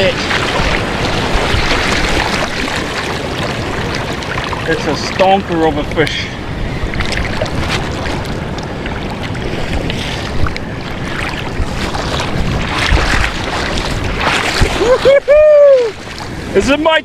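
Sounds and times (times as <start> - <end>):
small water splashes: 0.0 - 16.7
shallow surf: 0.0 - 17.0
wind rumbling on microphone: 0.0 - 17.0.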